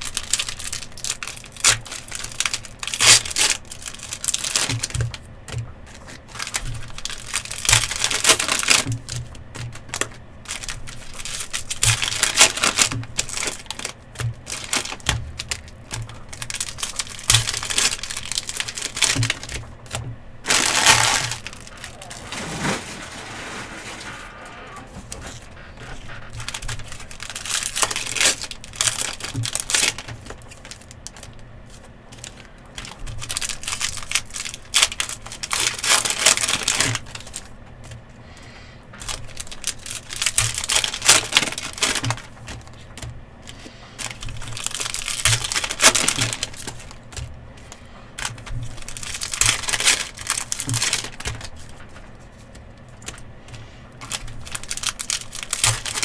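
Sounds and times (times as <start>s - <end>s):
plastic wrappers crinkling and tearing: 0.0s - 56.0s.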